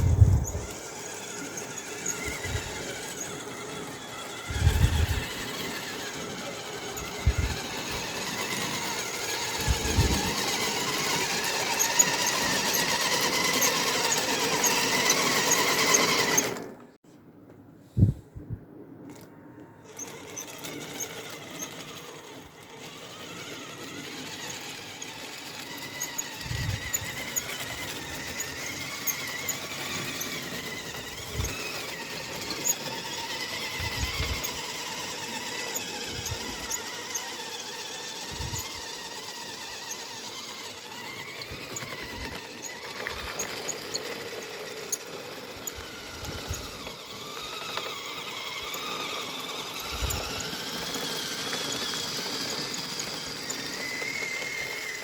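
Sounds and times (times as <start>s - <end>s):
electric motor whining: 0.0s - 16.8s, 19.8s - 55.0s.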